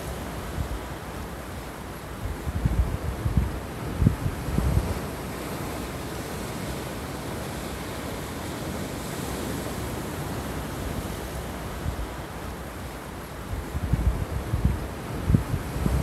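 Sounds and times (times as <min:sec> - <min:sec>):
wind rumbling on microphone: 0:00.0 - 0:01.4, 0:02.0 - 0:16.0.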